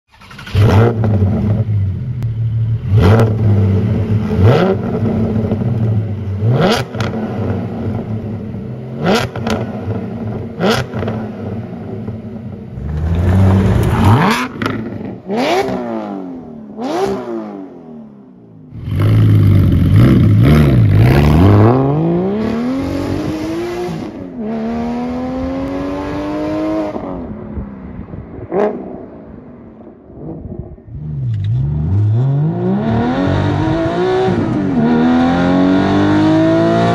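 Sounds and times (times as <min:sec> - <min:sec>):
sports car engine revving: 0:00.3 - 0:17.9, 0:18.7 - 0:27.3, 0:30.2 - 0:36.9.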